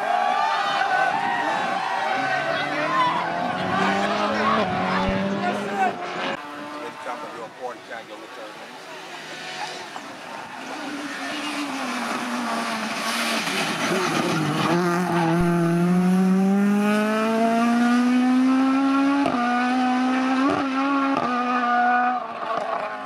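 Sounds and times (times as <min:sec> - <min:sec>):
rally car engine at full throttle: 0:00.0 - 0:23.0.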